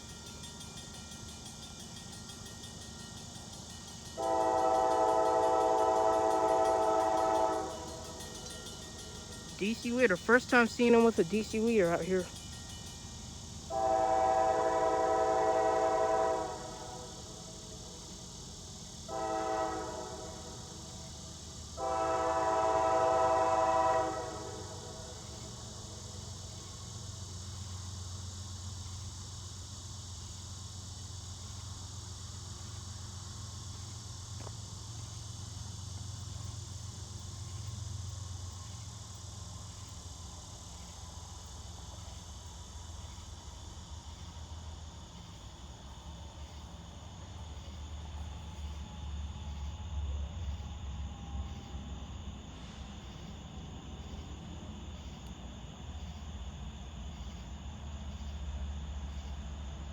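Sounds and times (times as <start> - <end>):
diesel locomotive rumble: 0.0 - 54.8
crickets chirping: 0.0 - 59.9.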